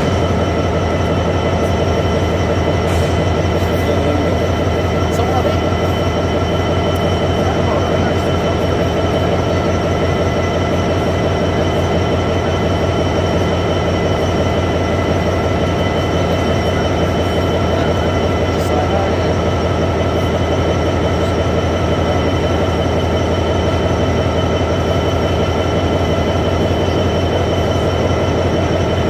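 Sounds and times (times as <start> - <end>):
diesel locomotive engine idling: 0.0 - 29.0
high whine: 0.0 - 29.0.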